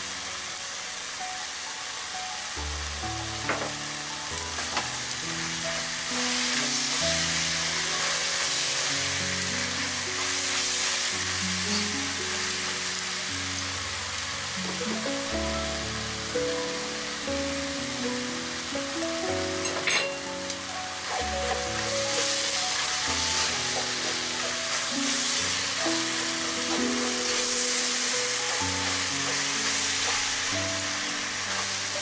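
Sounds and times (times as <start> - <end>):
pork sizzling in wok: 0.0 - 32.0
soft background music: 0.0 - 32.0.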